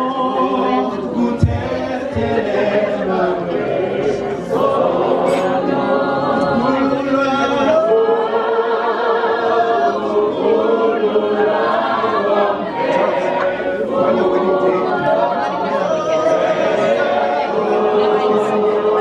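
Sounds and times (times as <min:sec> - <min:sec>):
group singing a cappella: 0:00.0 - 0:19.0.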